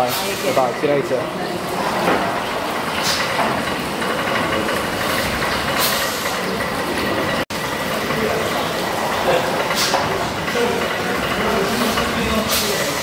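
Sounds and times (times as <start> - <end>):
steam beam engine running: 0.0 - 13.0.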